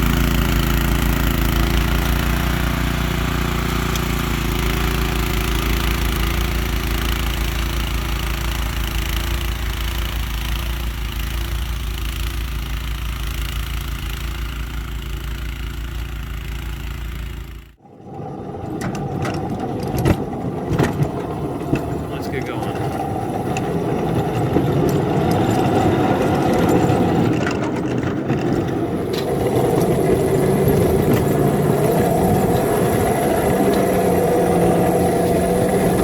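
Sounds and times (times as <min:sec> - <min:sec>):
engine running: 0:00.0 - 0:36.0
rumble with sharp knocks: 0:03.5 - 0:36.0.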